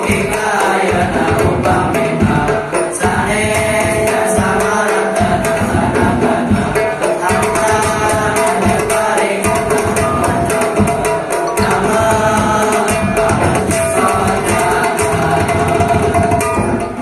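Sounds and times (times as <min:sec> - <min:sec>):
boys chanting together: 0:00.0 - 0:16.4
hand drums beating: 0:00.0 - 0:17.0.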